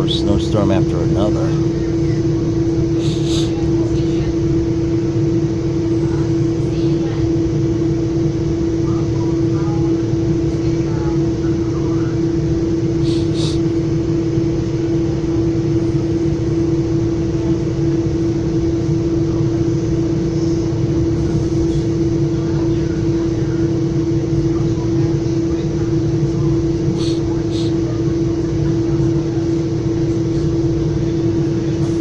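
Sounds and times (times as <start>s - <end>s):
train interior rumble and hum: 0.0s - 32.0s.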